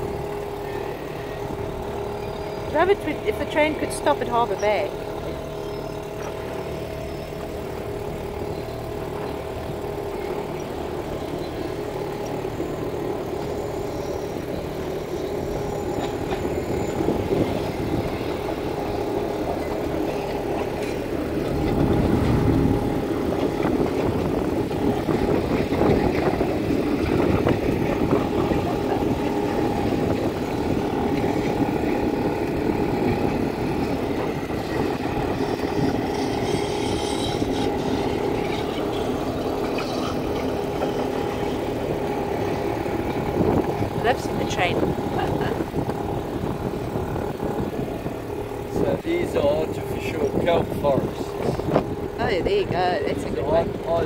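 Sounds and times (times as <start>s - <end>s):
engine hum: 0.0s - 54.0s
wind: 0.0s - 54.0s.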